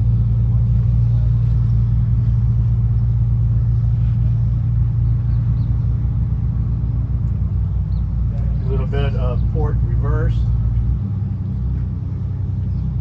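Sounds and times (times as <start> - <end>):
boat engines idling: 0.0 - 13.0.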